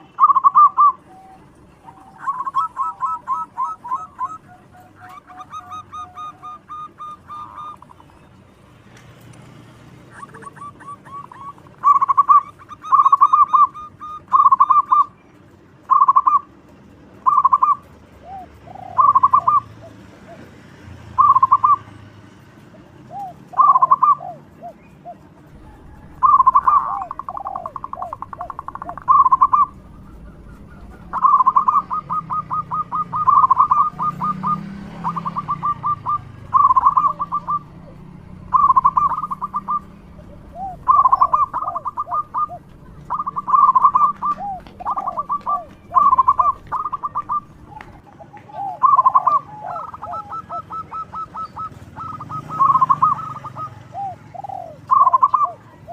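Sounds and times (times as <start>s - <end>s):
dove cooing: 0.0s - 8.4s, 10.0s - 15.2s, 15.9s - 16.5s, 17.2s - 20.6s, 21.2s - 21.9s, 22.7s - 55.9s.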